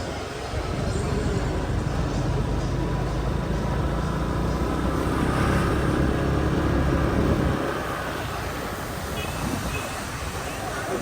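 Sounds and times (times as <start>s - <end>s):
motorbike engines: 0.0s - 11.0s
street traffic: 0.0s - 11.0s.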